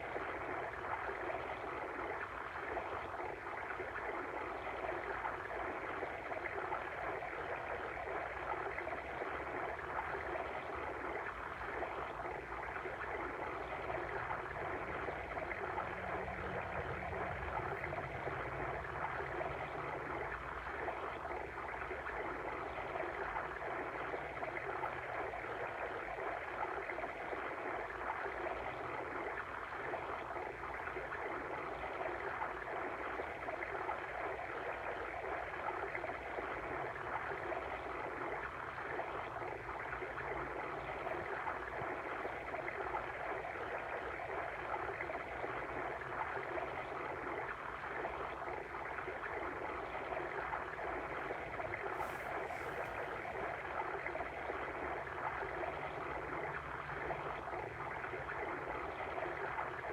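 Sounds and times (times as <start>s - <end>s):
water stream rushing and babbling: 0.0s - 59.9s.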